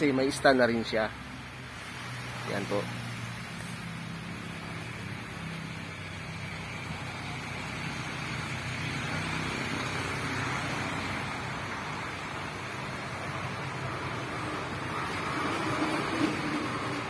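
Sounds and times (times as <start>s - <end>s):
vehicle engine hum: 0.0s - 17.0s
rushing noise: 0.1s - 17.0s.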